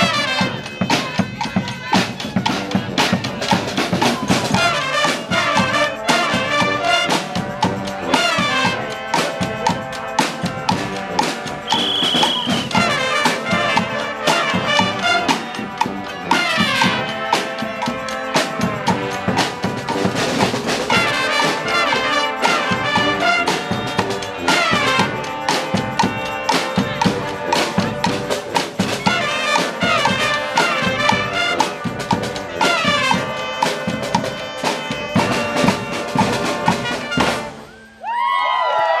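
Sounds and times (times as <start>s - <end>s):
brass band playing: 0.0s - 37.9s
drums: 0.0s - 39.0s.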